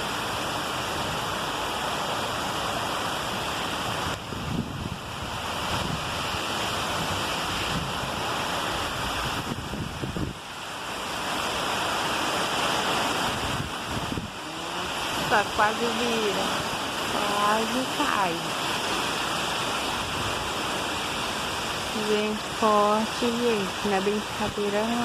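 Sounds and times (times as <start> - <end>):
heavy rain: 0.0 - 25.0
strong wind: 0.0 - 25.0.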